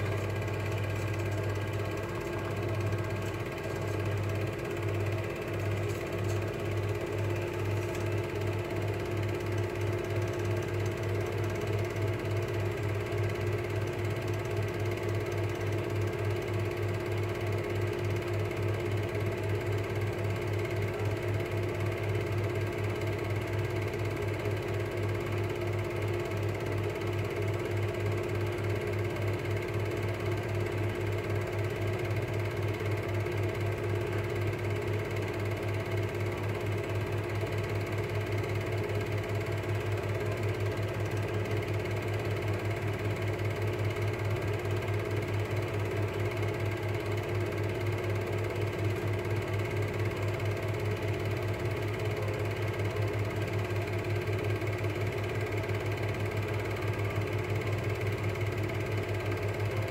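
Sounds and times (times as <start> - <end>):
motor hum: 0.0 - 59.9
projector mechanical clatter: 0.0 - 59.9.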